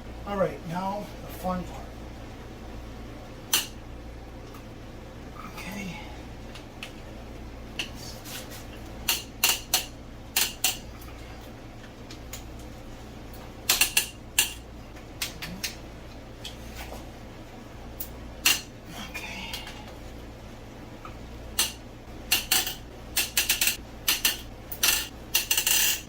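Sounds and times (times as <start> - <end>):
air conditioner hum: 0.0 - 26.0.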